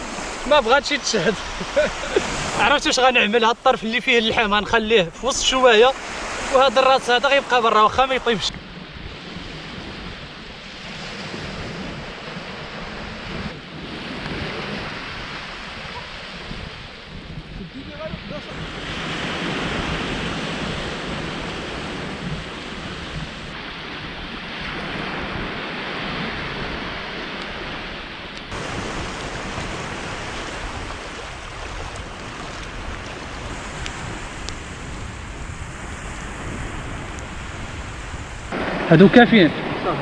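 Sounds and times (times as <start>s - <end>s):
wind on microphone: 0.0s - 6.6s, 7.8s - 40.0s
surf washing on shore: 0.0s - 40.0s.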